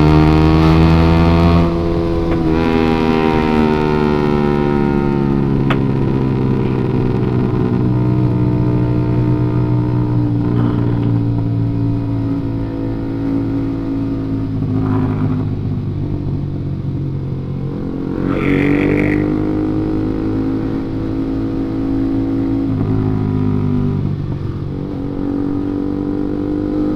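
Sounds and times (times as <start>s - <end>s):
vehicle engine running: 0.0s - 26.9s.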